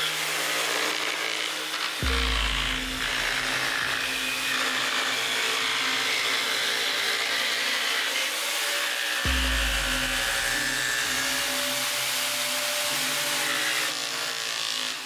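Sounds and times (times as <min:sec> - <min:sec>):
jigsaw cutting wood: 0:00.0 - 0:15.0.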